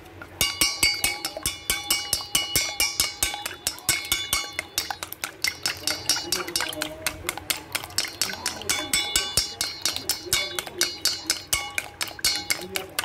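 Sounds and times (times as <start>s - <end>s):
chopsticks clicking against metal bowl: 0.4s - 13.0s
metal bowl ringing: 0.4s - 13.0s.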